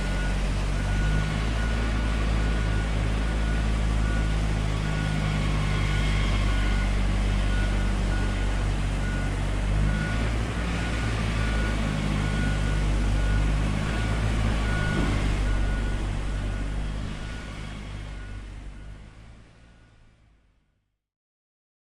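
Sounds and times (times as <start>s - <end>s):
reversing alarm beeping: 0.0s - 20.0s
construction vehicle engine running: 0.0s - 20.6s.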